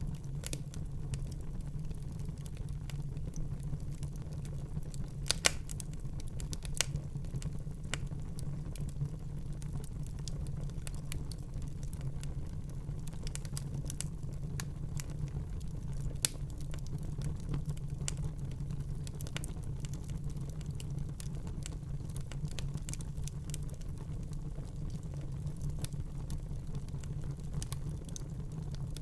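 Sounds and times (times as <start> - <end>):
fire crackling and popping: 0.0 - 29.0
fire rumbling in fireplace: 0.0 - 29.0.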